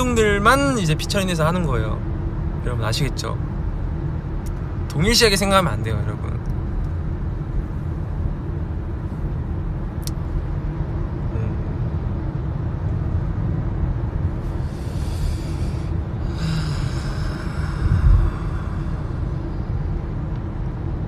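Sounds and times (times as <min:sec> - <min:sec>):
car rumble inside cabin: 0:00.0 - 0:21.0.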